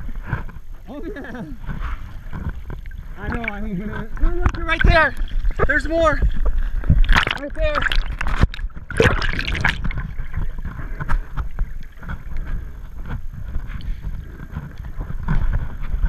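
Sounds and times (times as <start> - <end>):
muffled underwater rumble: 0.0 - 16.0
water splashing: 0.0 - 16.0.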